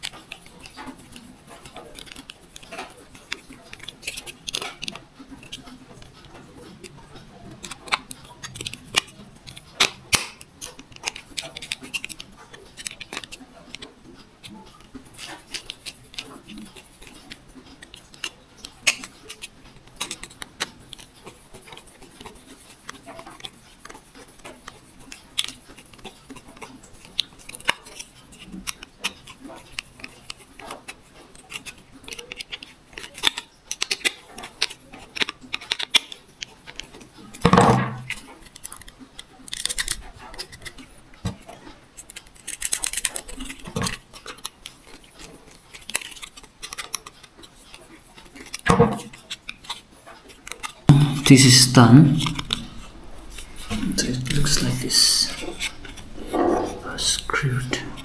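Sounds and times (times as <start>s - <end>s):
small tools clicking and scraping: 0.0s - 51.1s.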